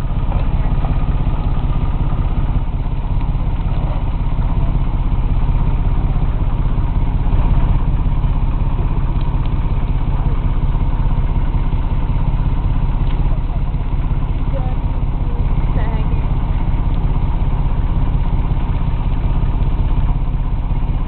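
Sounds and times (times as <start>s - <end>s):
boat engine throbbing: 0.0s - 21.0s.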